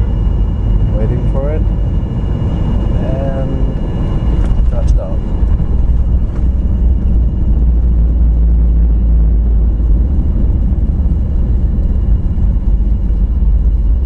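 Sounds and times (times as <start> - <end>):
jet engine noise: 0.0 - 14.0
wheels rumbling on runway: 0.0 - 14.0.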